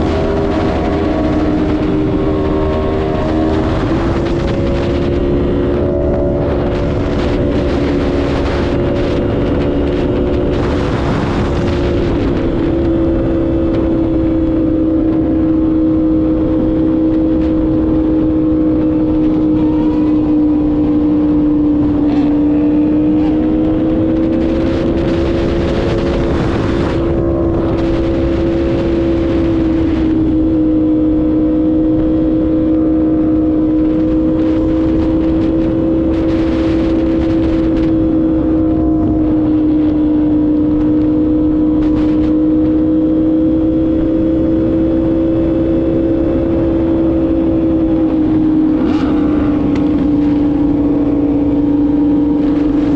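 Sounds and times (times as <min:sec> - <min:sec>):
motorcycle engine cruising: 0:00.0 - 0:52.9
wind rushing over microphone: 0:00.0 - 0:52.9.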